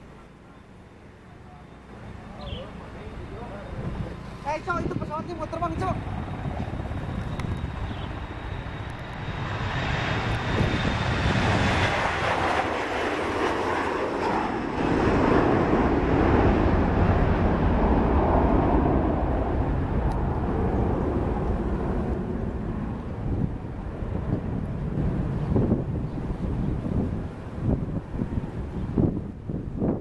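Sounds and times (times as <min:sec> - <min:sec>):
jet engines roaring: 0:00.2 - 0:30.0.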